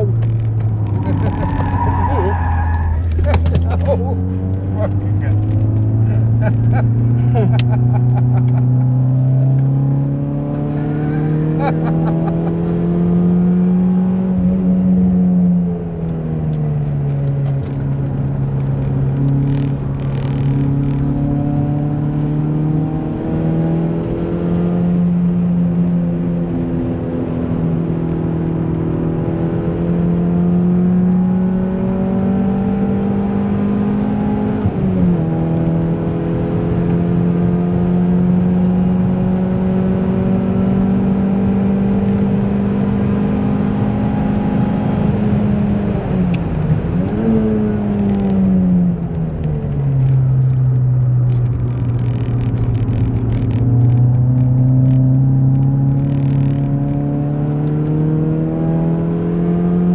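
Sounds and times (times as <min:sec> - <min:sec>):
car engine revving in cabin: 0:00.0 - 0:59.9.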